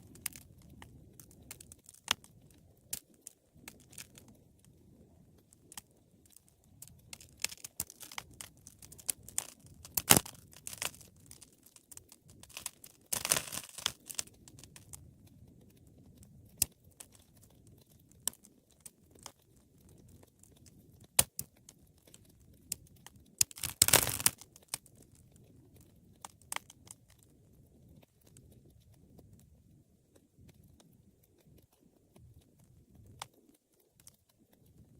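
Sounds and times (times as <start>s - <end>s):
low noise of burning: 0.0s - 34.9s
wood fire crackling: 0.0s - 34.9s.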